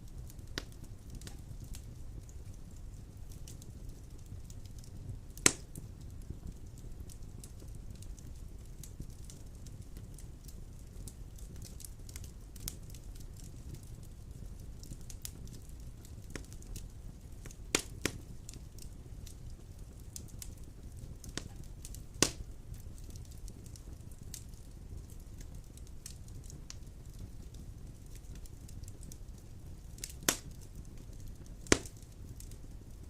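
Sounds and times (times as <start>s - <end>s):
wood fire rumbling and crackling: 0.0s - 33.0s
sharp pops of burning logs: 0.2s - 33.0s.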